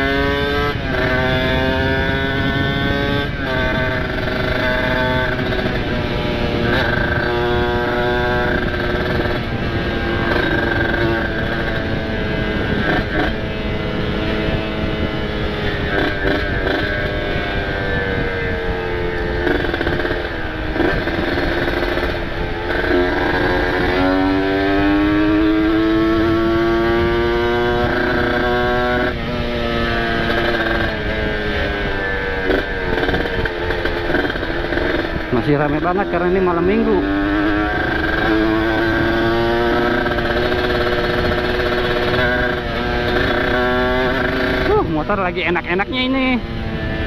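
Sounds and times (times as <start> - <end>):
two-stroke motorcycle engine revving: 0.0 - 47.0.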